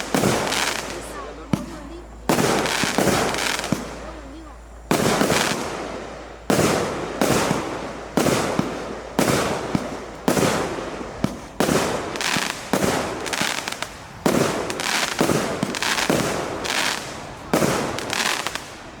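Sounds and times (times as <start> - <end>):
firework bangs with hissing tails: 0.0 - 19.0.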